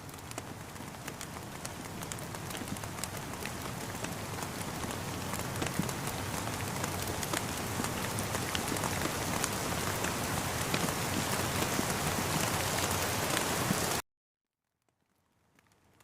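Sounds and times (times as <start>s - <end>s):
rain falling: 0.0s - 14.0s, 15.0s - 16.0s.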